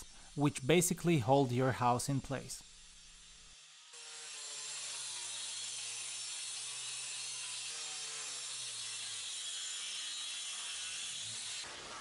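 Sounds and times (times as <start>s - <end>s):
circular saw cutting plywood: 0.0s - 12.0s.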